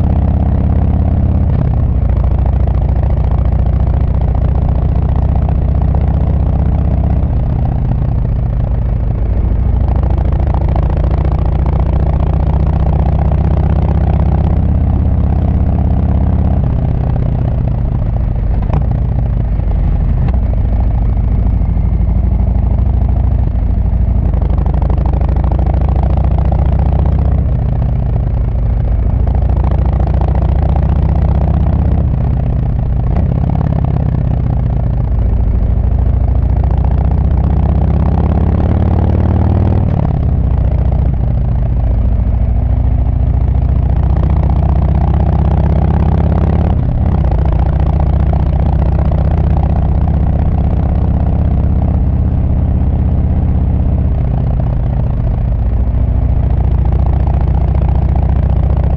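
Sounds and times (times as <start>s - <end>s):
motorcycle exhaust rumbling: 0.0s - 58.9s.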